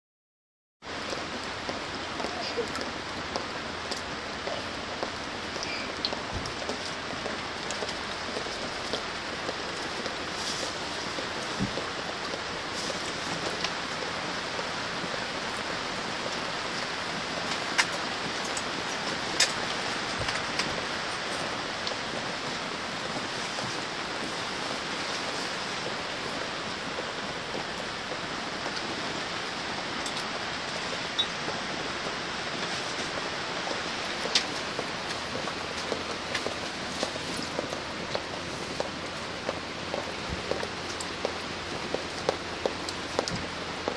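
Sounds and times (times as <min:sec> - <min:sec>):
rain on tent roof: 0:00.8 - 0:43.9.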